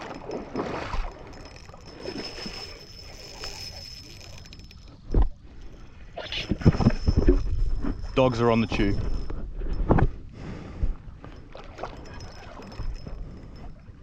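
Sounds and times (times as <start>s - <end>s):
water sloshing around wading legs: 0.0s - 9.9s, 11.0s - 14.0s.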